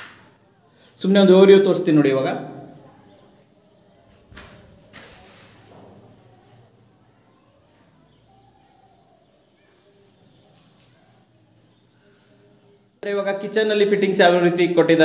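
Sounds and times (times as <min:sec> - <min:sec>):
faint high insect chirps: 0:00.0 - 0:14.5.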